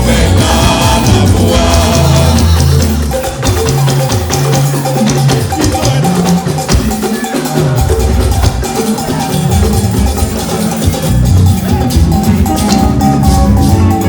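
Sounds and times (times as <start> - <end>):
bass line: 0.0 - 6.7, 9.3 - 14.0
drums and percussion: 0.0 - 14.0.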